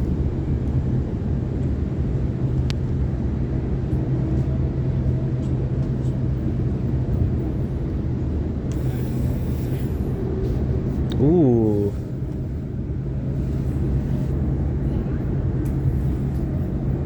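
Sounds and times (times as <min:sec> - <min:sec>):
train wheels rumbling on rail: 0:00.0 - 0:11.1, 0:11.9 - 0:17.0.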